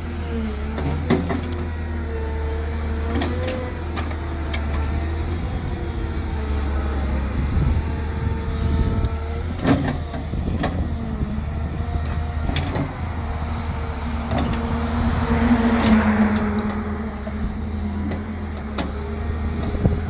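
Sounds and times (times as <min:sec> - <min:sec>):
diesel engine hum: 0:00.0 - 0:20.0
hydraulic whine: 0:00.0 - 0:20.0.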